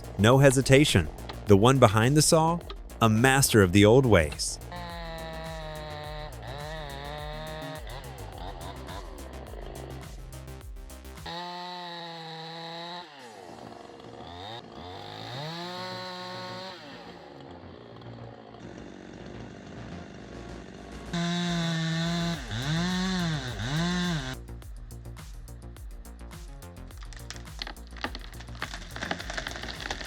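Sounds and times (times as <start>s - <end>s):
chainsaw engine revving: 0.0s - 24.4s, 26.9s - 30.0s.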